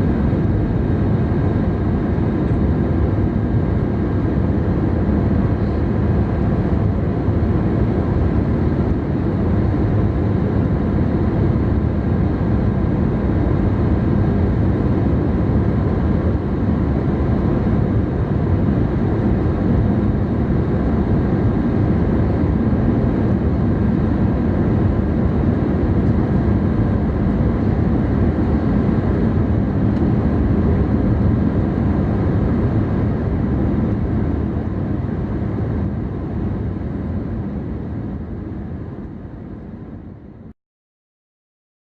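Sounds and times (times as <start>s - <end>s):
airplane cabin jet engine noise: 0.0s - 40.5s.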